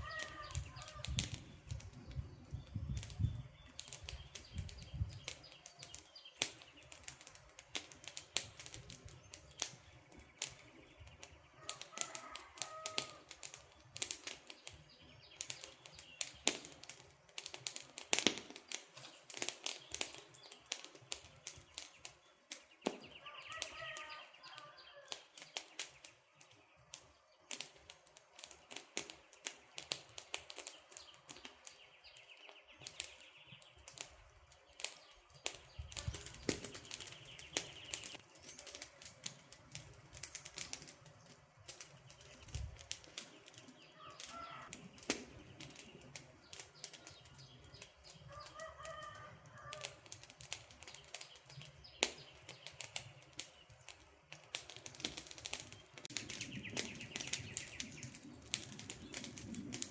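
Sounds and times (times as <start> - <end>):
campfire wood crackling: 0.0 - 59.9
fire pops and snaps: 0.0 - 59.9.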